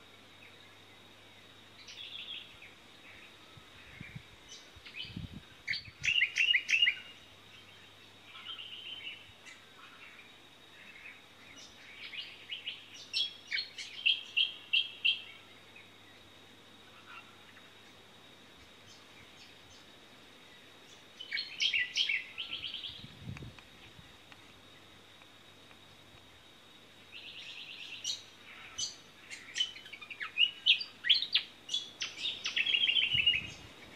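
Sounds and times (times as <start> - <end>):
small birds chirping: 0.0 - 18.0, 18.6 - 26.3, 26.9 - 33.9.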